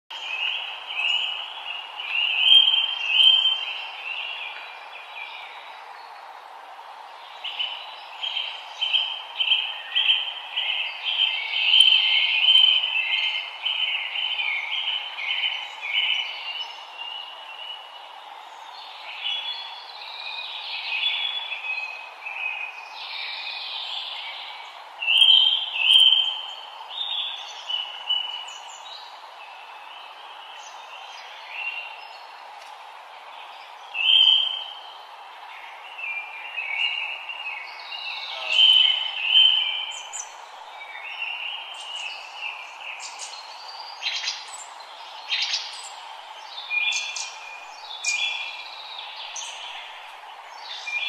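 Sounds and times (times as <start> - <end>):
birds chirping and warbling: 0.1 - 51.0
steady background hiss: 0.1 - 51.0.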